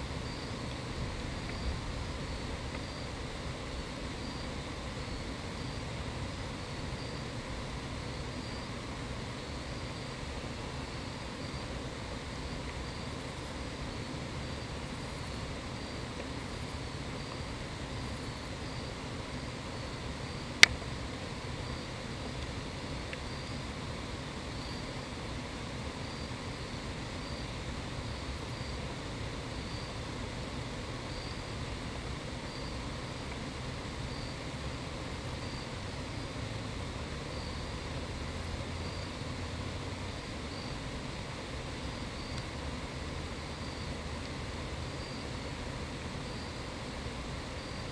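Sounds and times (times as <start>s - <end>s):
insect chirping: 0.0s - 47.9s
low rumble with hiss: 0.0s - 47.9s.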